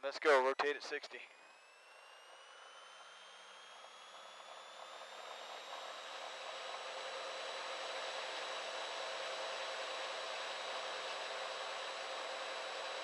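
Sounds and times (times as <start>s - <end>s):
high engine whine: 0.0s - 13.0s
propeller plane engine drone: 0.3s - 13.0s.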